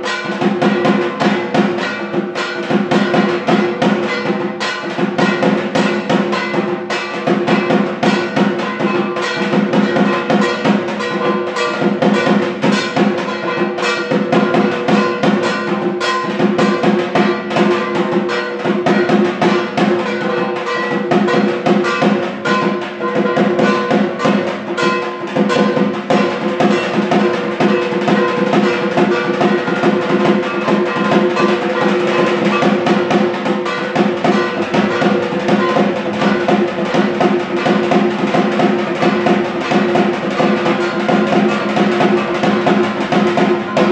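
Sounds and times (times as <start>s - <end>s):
barrel drum beaten with sticks: 0.0s - 43.9s.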